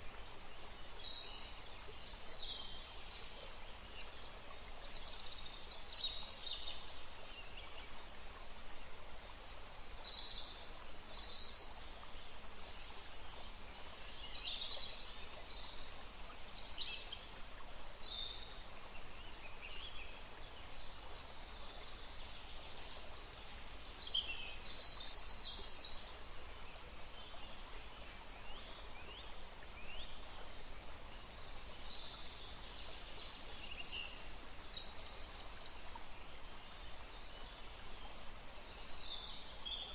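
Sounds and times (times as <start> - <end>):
steady soft hiss: 0.0 - 39.9.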